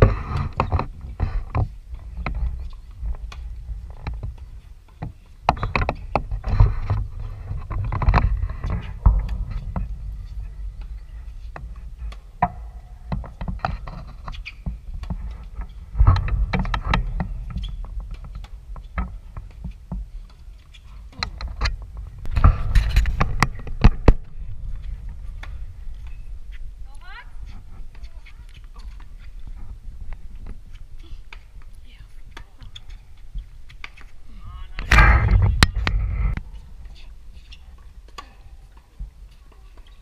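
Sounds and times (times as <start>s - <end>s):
wind buffeting microphone: 0.0s - 20.2s, 20.9s - 38.1s.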